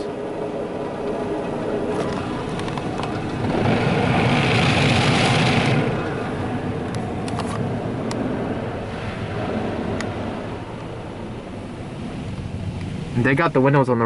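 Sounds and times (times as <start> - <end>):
automatic car wash running: 0.0 - 14.0.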